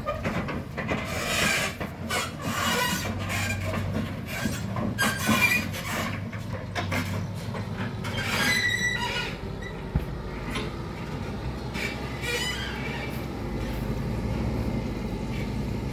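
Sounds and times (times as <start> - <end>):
trailers squeaking and creaking: 0.0 - 15.9
truck diesel engine: 0.0 - 15.9.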